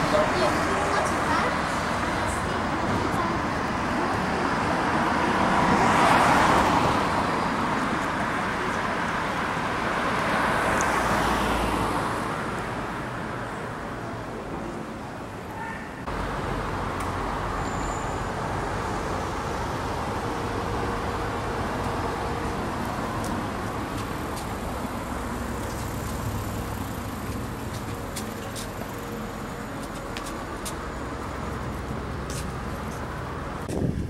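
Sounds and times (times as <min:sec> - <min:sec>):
cars passing on a street: 0:00.0 - 0:34.0.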